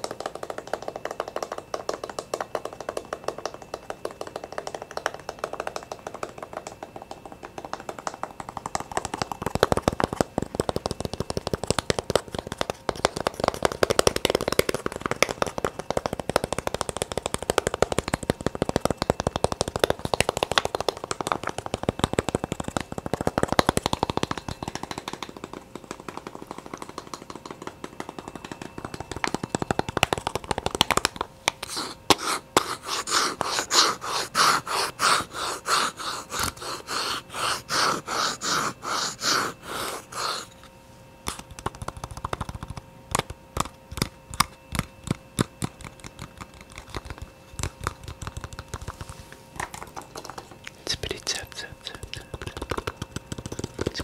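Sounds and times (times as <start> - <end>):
rapid light tapping: 0.0 - 40.7, 41.3 - 54.0.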